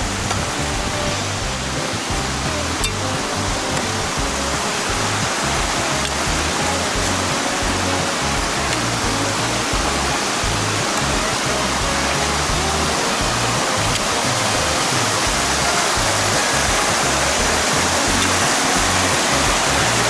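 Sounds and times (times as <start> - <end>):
background music: 0.0 - 20.0
stream water rushing: 0.0 - 20.0.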